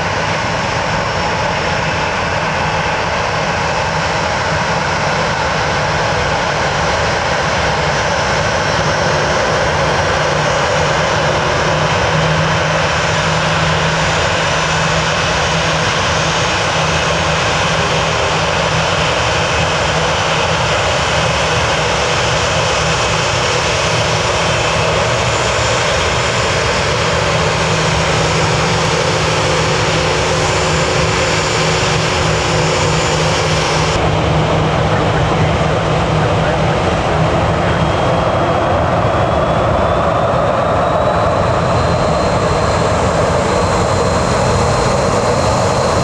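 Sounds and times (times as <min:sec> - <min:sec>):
jet engines running: 0:00.0 - 0:46.0.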